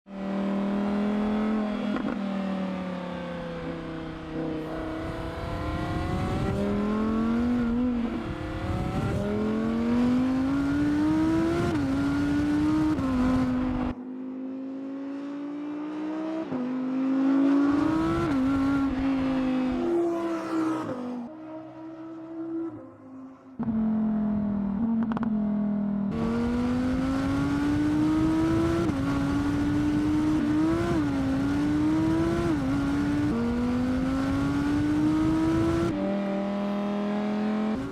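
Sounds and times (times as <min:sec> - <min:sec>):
sports car accelerating hard: 0:00.1 - 0:22.9, 0:23.5 - 0:37.9.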